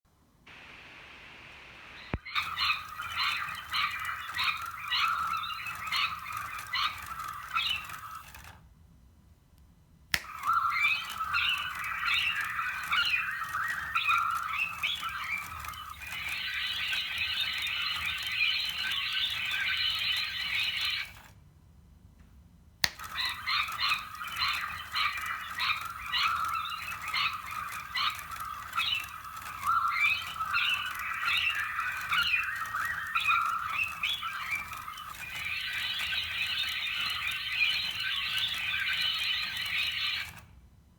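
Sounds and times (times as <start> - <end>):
recorded lorikeet screeching: 2.0 - 8.2, 10.3 - 21.1, 23.0 - 40.3.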